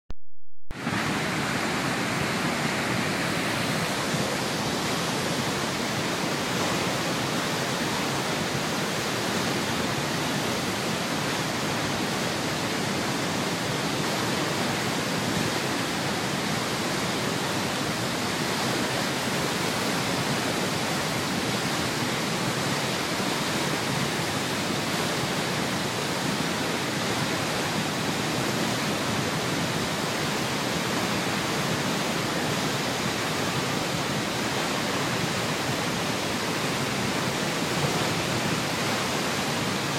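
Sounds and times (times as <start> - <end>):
waterfall rushing: 0.8 - 39.9.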